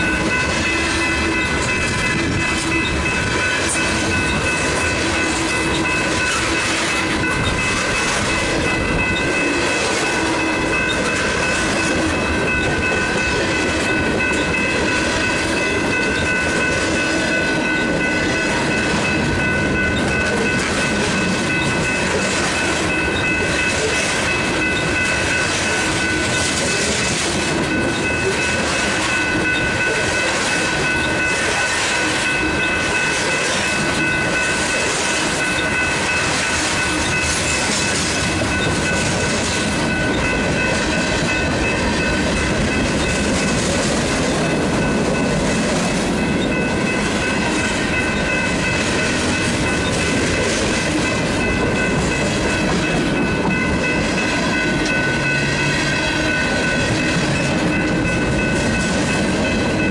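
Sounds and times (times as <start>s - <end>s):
crossing bells ringing: 0.0s - 59.9s.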